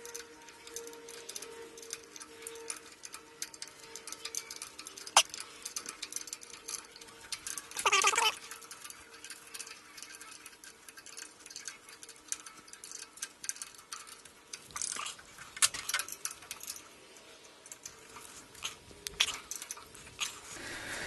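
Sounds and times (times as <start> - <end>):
small metallic clicks and taps: 0.0 - 20.6.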